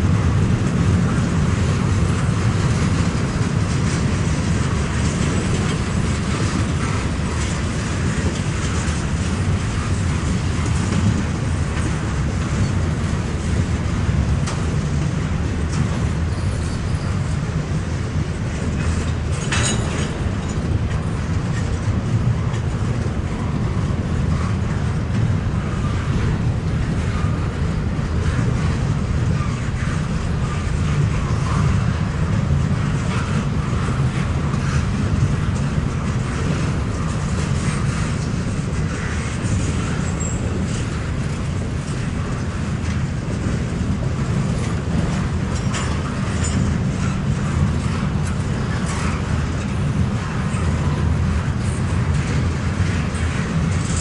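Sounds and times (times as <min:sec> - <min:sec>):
freight train wheels on rail: 0:00.0 - 0:54.0.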